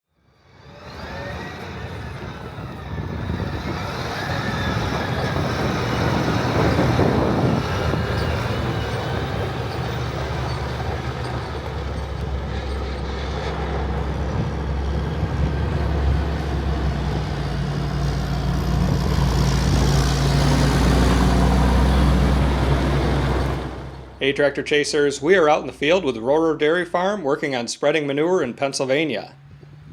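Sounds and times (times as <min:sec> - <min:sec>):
tractor diesel engine running: 0:00.4 - 0:27.5.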